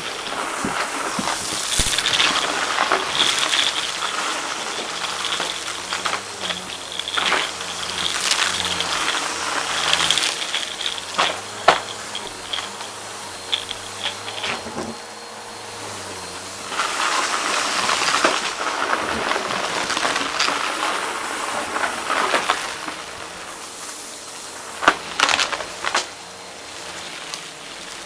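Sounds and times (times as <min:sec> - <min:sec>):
debris crackling through vacuum: 0:00.0 - 0:15.3, 0:16.4 - 0:28.0
vacuum cleaner running: 0:00.0 - 0:28.0.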